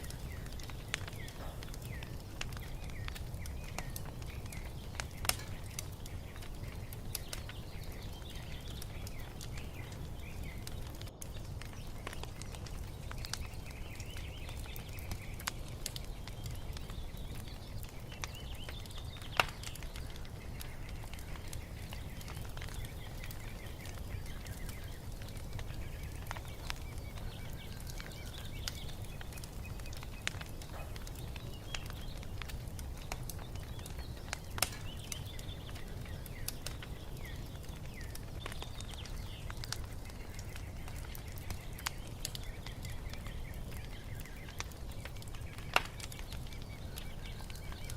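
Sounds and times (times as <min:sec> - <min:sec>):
small birds chirping: 0:00.0 - 0:47.9
wood fire crackling and popping: 0:00.0 - 0:47.9.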